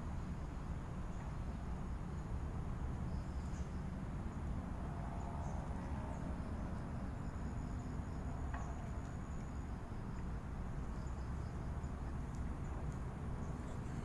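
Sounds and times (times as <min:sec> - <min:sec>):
insect chirps: 0:02.1 - 0:14.0.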